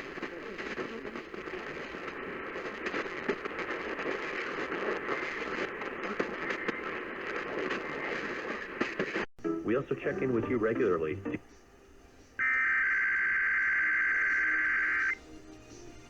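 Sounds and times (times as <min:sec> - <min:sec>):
radio static hiss with crackles: 0:00.0 - 0:15.2.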